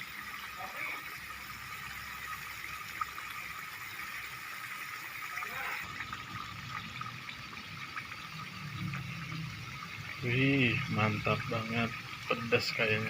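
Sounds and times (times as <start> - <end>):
sauce and eggs sizzling in a pan: 0.0 - 13.0.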